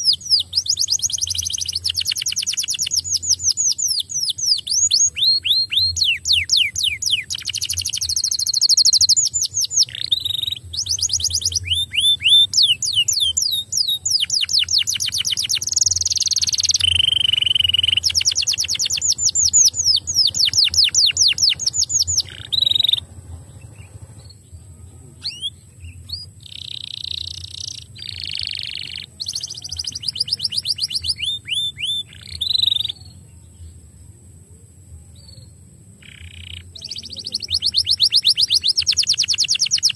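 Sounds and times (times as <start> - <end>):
canary singing trills: 0.0 - 34.0, 35.0 - 39.9.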